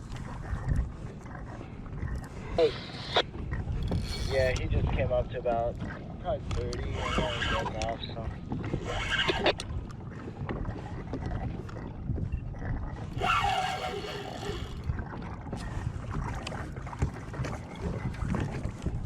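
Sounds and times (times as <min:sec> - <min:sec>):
water moving around kayak: 0:00.0 - 0:19.0
wind buffeting microphone: 0:00.0 - 0:19.0.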